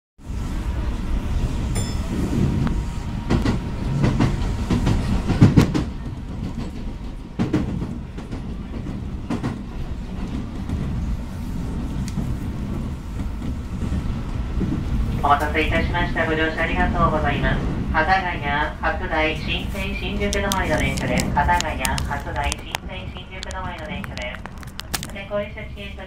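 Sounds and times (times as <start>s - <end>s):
train interior rumble: 0.2s - 26.0s.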